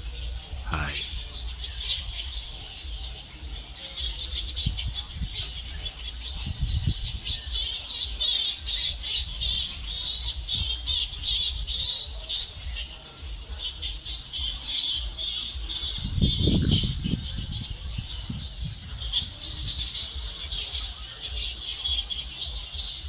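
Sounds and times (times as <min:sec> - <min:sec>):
bats squeaking and chattering: 0:00.0 - 0:23.0.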